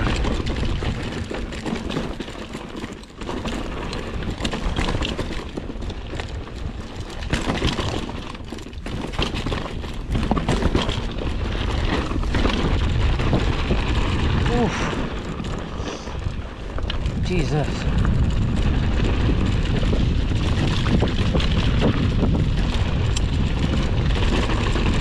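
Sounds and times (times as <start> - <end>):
bike rattling over bumps: 0.0 - 25.0
tyres crunching over stones: 0.0 - 25.0.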